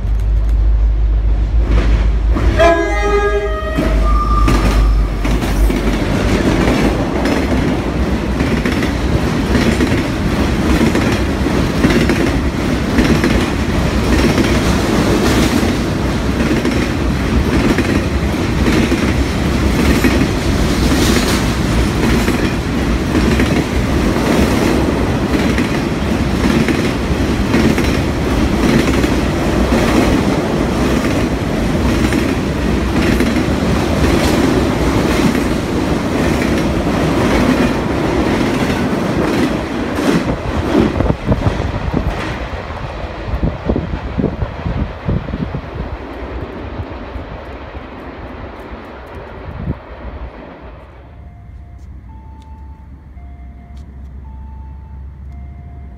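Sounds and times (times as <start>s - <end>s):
clicks of passing train trucks: 0.0s - 55.9s
train wheels rumbling on rail: 0.0s - 55.9s.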